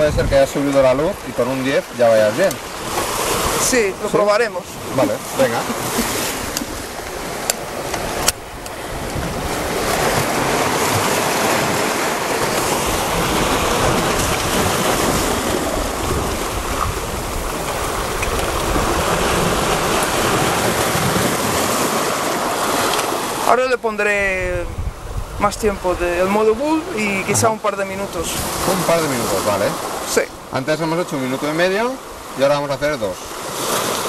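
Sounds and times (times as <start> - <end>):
waves washing over rocks: 0.0 - 34.0.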